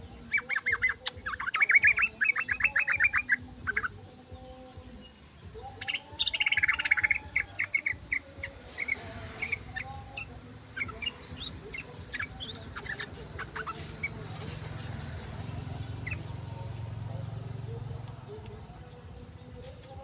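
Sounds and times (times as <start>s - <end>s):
bulbul chirping: 0.0s - 4.0s, 4.8s - 20.0s.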